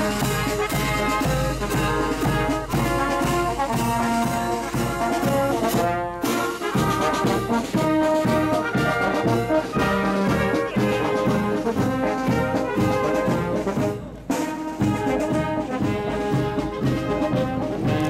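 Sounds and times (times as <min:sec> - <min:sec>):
marching brass band: 0:00.0 - 0:18.0
steady drum beat: 0:00.0 - 0:18.0.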